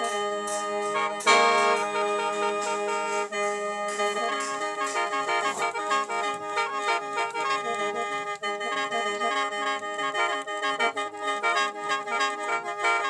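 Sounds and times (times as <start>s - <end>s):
mouth organ melody with drone: 0.0s - 13.0s.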